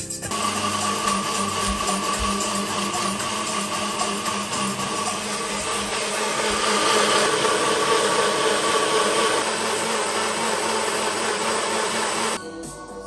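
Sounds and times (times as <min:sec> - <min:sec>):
blender motor running: 0:00.3 - 0:12.4.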